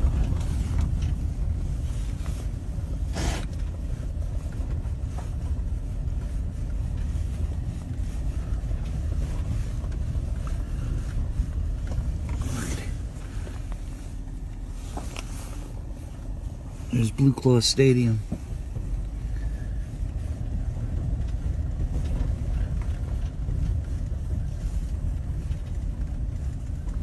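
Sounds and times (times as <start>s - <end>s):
car road noise rumble: 0.0s - 27.0s.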